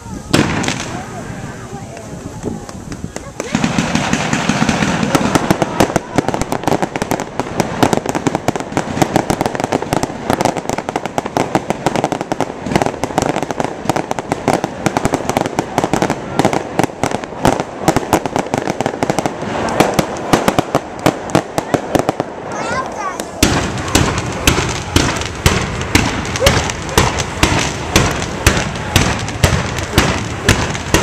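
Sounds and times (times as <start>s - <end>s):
fireworks popping and crackling: 0.0s - 31.0s.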